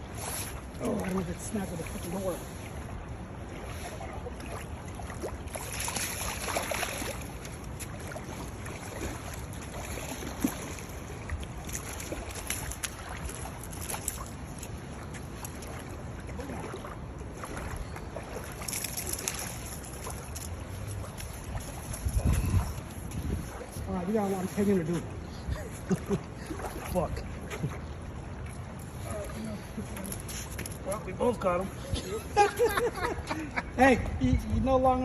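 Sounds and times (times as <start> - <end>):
wind rumble on microphone: 0.0 - 30.2, 31.7 - 35.0
water noise around boat: 0.0 - 35.0.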